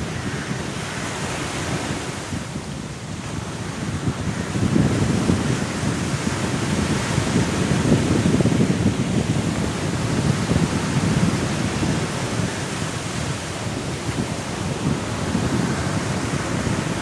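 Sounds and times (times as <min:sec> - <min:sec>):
sea surf: 0:00.0 - 0:17.0
strong wind: 0:00.0 - 0:17.0.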